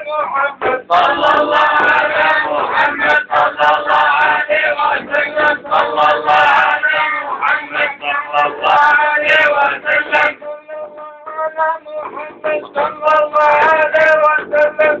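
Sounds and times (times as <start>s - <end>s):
men chanting a devotional song: 0.0s - 15.0s.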